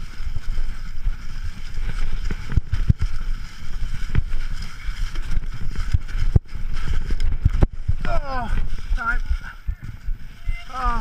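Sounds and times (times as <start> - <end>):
bike wheels jolting on rocks: 0.0 - 11.0
tyres hissing over dry leaves: 0.0 - 11.0
wind rumble on microphone: 0.0 - 11.0.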